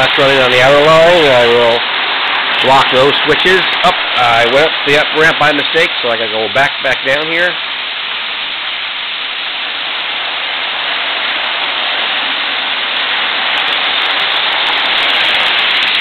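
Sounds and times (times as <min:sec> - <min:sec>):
model trains rumbling on track: 0:00.0 - 0:07.7, 0:09.9 - 0:16.0.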